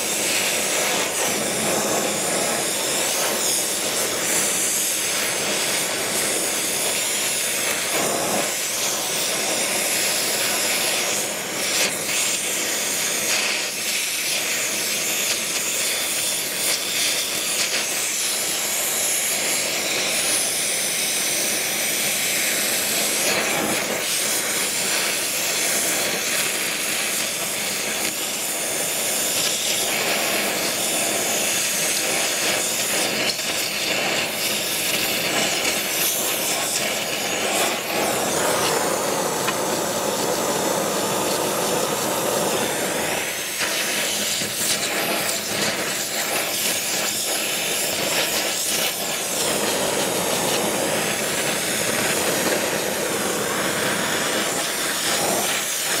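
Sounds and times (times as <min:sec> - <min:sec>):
torch flame hissing: 0:00.0 - 0:56.0.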